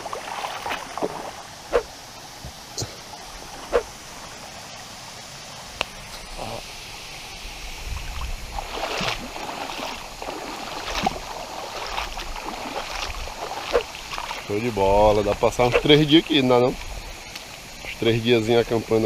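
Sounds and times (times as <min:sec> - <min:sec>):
stream running: 0:00.0 - 0:19.0.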